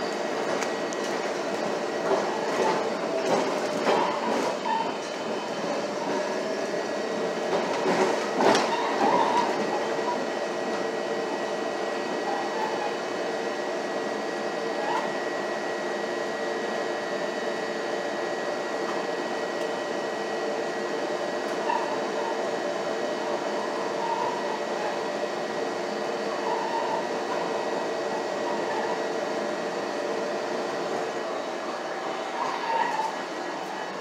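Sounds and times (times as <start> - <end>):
train motor hum and whine: 0.0 - 34.0
wheels rushing on rail: 0.0 - 34.0.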